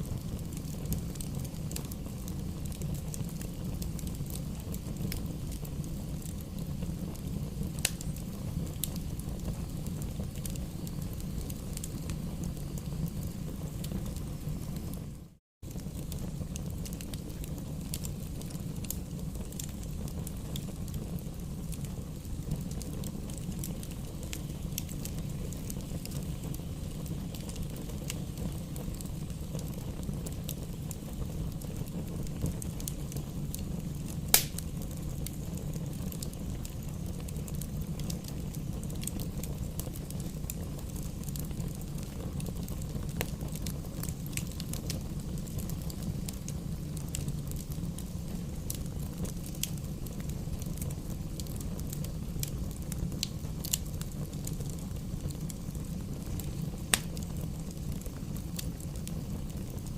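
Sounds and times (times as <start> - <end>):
campfire flames rumbling: 0.0 - 59.9
fire crackling and popping: 0.0 - 59.9.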